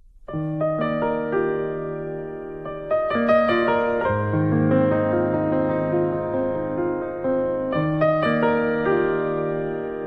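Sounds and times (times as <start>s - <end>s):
piano music: 0.2s - 10.0s.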